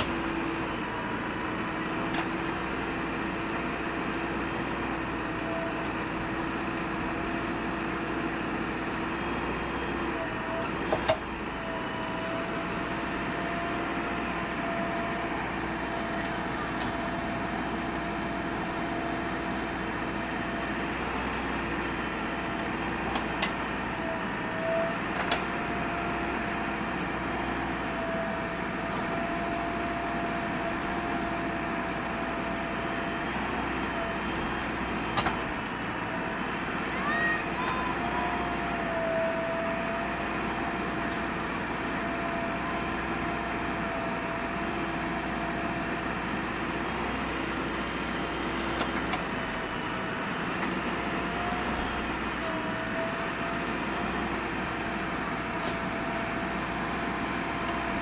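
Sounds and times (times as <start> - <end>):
machine engine hum: 0.0 - 58.0.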